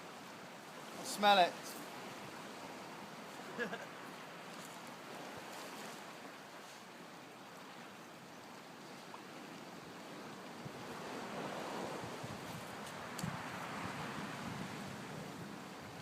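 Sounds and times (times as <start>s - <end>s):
sea surf rushing: 0.0s - 7.8s, 9.2s - 16.0s
wind: 0.0s - 16.0s.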